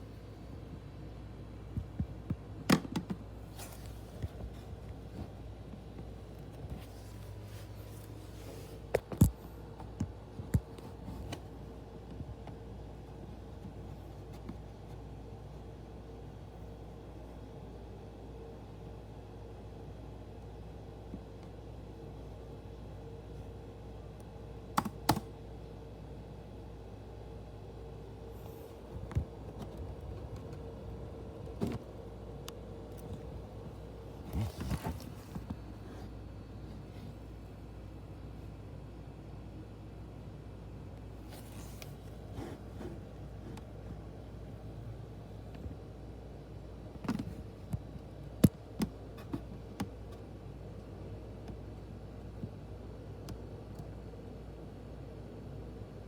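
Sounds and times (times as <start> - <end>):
cooling fan humming: 0.0 - 56.0.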